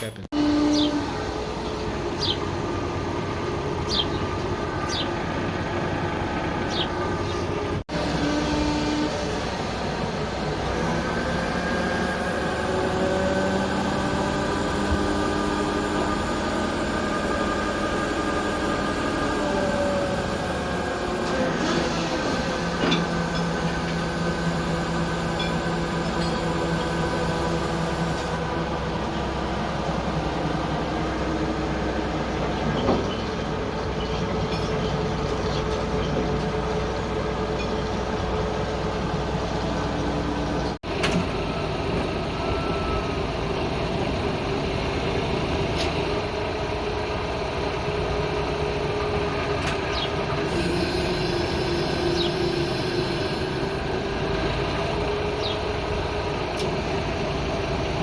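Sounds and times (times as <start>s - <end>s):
machinery droning and whining: 0.0s - 58.0s.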